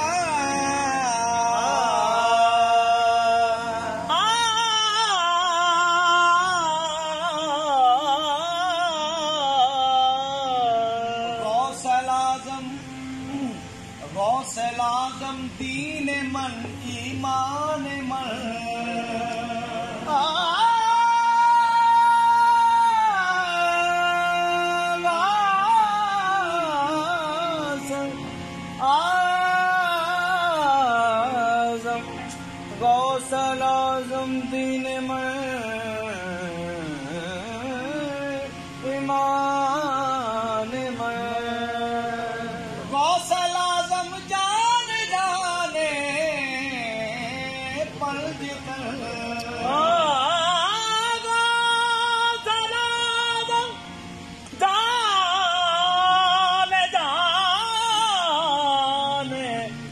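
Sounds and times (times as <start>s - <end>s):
harmonium: 0.0s - 59.9s
men singing held notes: 0.0s - 59.9s.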